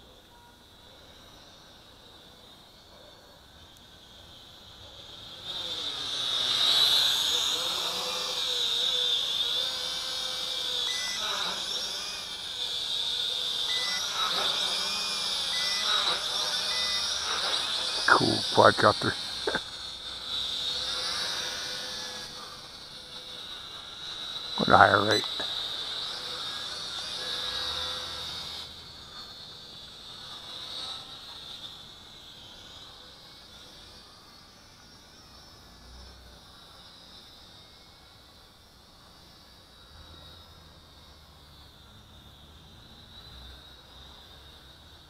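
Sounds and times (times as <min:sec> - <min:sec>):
toy quadcopter motors whining: 0:00.0 - 0:45.0.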